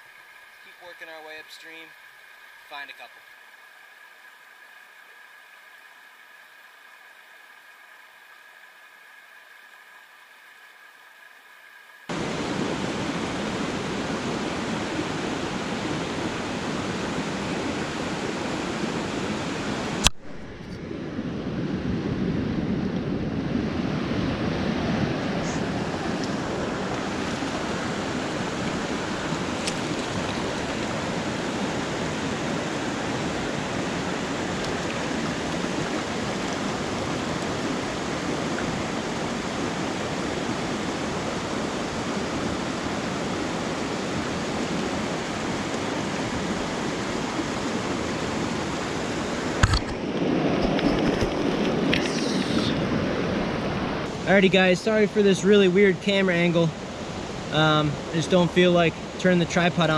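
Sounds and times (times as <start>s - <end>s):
creek water running: 0.0s - 20.8s, 23.8s - 59.9s.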